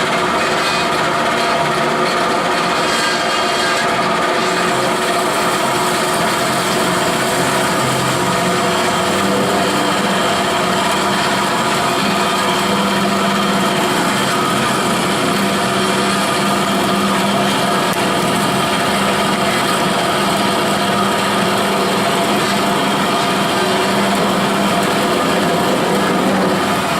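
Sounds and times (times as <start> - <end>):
bandsaw cutting steel tubing: 0.0 - 26.9
motor hum: 3.2 - 26.9.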